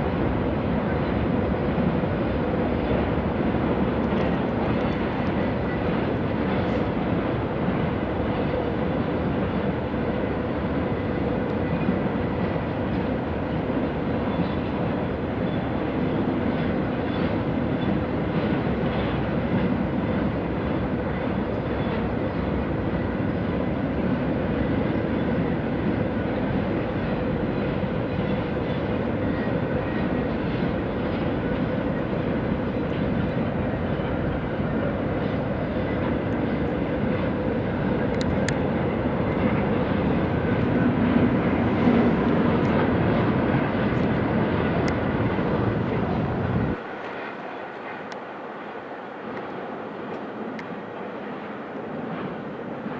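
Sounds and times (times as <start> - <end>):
freight train wheels rumbling on rail: 0.0 - 52.9.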